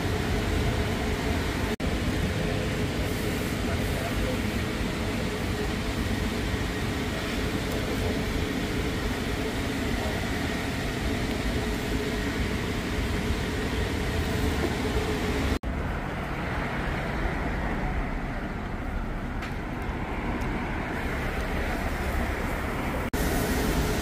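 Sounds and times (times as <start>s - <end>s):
road traffic rumble and hiss: 0.0s - 24.0s.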